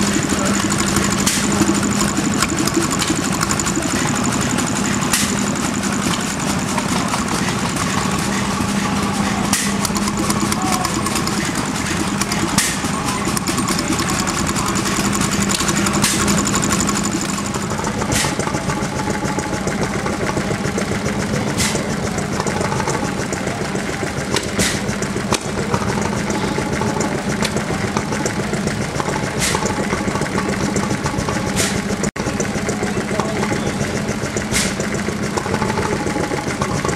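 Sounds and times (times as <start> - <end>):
stationary engines running: 0.0 - 36.9.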